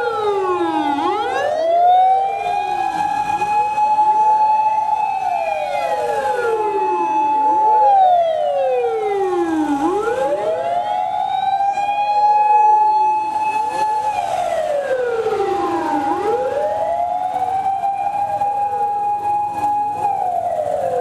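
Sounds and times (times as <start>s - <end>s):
fire engine sirens wailing: 0.0s - 21.0s.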